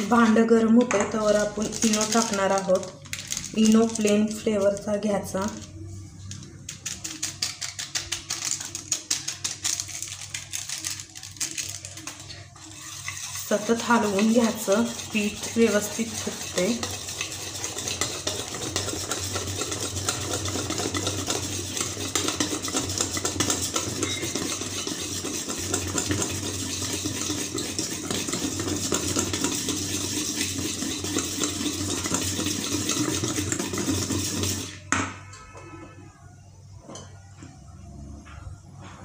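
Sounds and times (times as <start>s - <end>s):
wire whisk beating batter in bowl: 1.1s - 5.7s, 6.7s - 34.8s.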